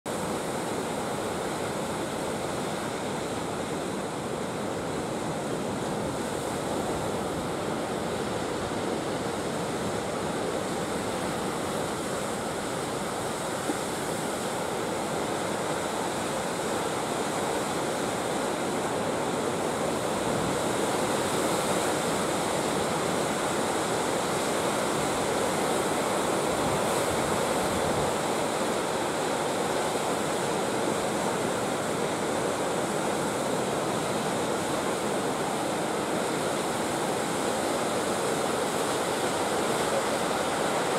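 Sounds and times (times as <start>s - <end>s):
sea waves breaking: 0.1s - 40.9s.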